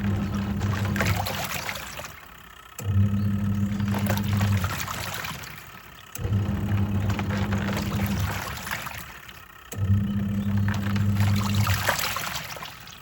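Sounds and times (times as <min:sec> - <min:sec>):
washing machine motor humming: 0:00.0 - 0:13.0
water sloshing in tub: 0:00.0 - 0:13.0.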